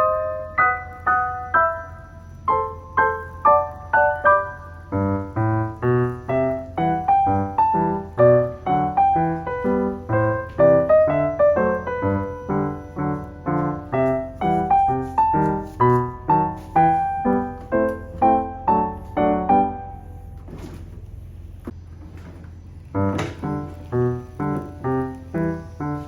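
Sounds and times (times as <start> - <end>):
piano single notes: 0.0 - 20.6, 23.0 - 26.0.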